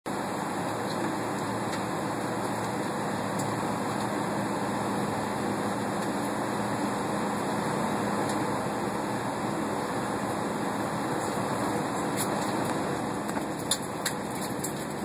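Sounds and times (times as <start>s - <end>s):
cabin air-conditioning hum: 0.1s - 15.0s.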